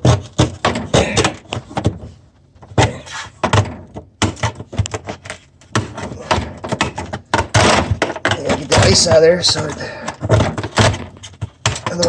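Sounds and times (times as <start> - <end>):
knocks against plastic: 0.0 - 12.0.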